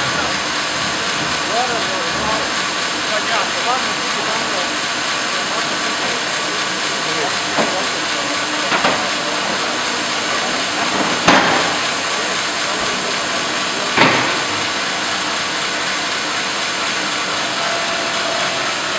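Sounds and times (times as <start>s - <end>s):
sawmill mechanical running noise: 0.0s - 18.9s.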